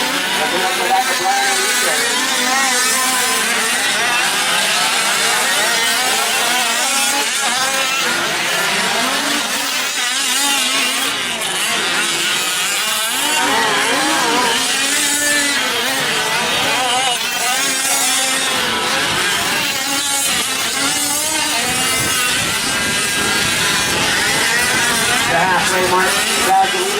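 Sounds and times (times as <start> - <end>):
small two-stroke engines buzzing: 0.0 - 26.9.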